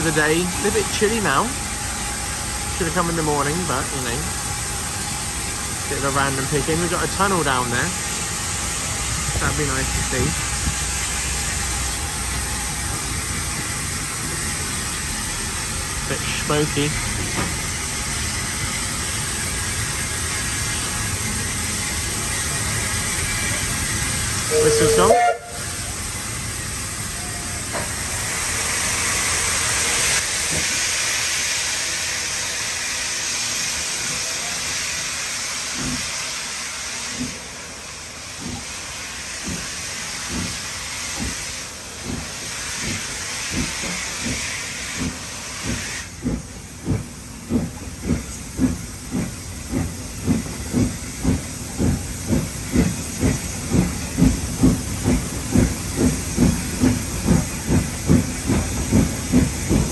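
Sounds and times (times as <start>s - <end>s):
hiss of steam: 0.0s - 59.9s
locomotive exhaust chuffs: 0.0s - 59.9s.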